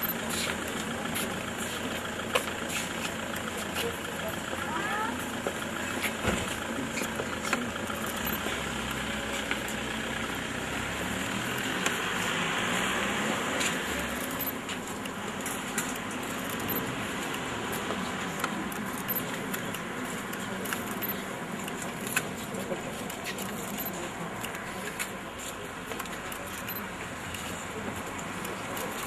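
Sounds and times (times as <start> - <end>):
scattered clicks and light clatter: 0.0 - 12.4, 13.4 - 29.0
crowd shuffling and rustling: 0.0 - 29.0.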